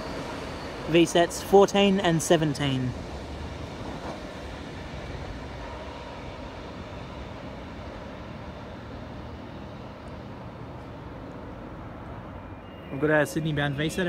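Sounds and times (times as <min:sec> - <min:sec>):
electric train running away: 0:00.0 - 0:14.0.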